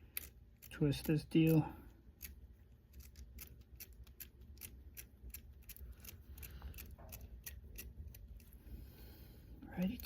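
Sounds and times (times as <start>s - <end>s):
faint rapid ratchet clicking: 0.1s - 8.5s.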